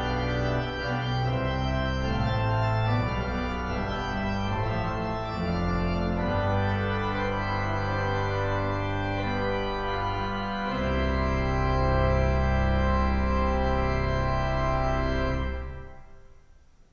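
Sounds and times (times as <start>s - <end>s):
organ chords with pedal bass: 0.0s - 16.1s.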